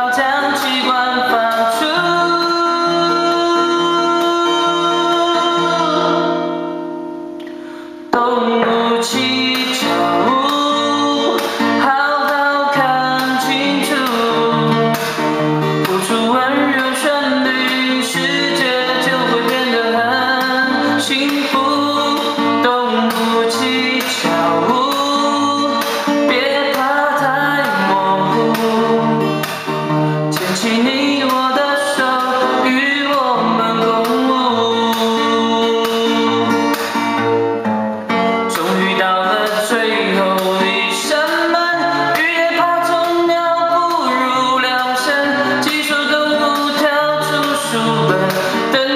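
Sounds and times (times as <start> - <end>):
pop song with singing: 0.0 - 48.9.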